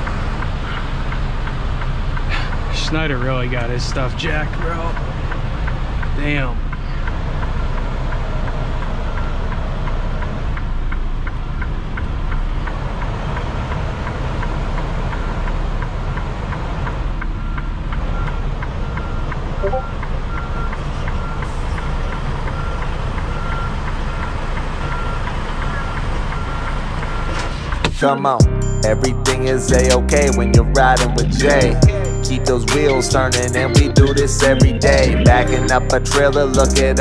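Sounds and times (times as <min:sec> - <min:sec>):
diesel truck engine running: 0:00.0 - 0:37.0
truck backup alarm beeping: 0:00.0 - 0:37.0.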